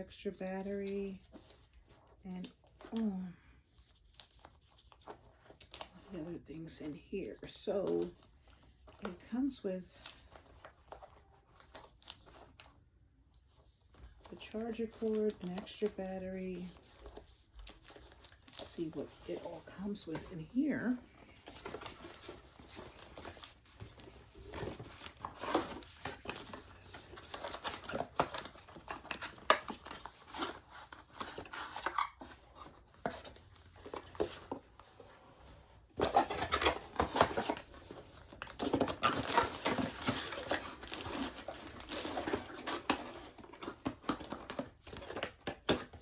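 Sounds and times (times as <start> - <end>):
packaging rustling and crinkling: 0.0 - 46.0.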